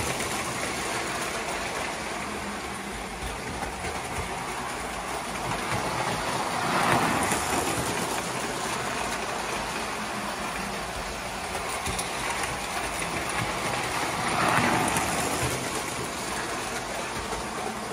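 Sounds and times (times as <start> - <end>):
toy trains rumbling on track: 0.0 - 17.9.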